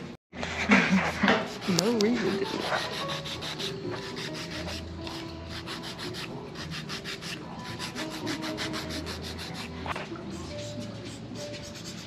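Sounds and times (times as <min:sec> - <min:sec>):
nail file rasping on fingernail: 0:01.0 - 0:09.7, 0:10.6 - 0:12.0.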